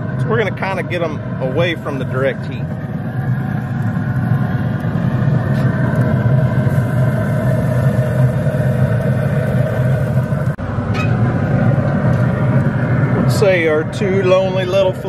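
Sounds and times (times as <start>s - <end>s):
grill fan humming: 0.0s - 15.0s.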